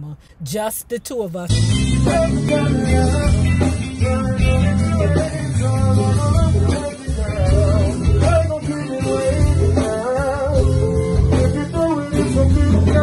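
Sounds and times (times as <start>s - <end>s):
guitar-led band: 1.5s - 13.0s
man singing with vibrato: 1.5s - 13.0s.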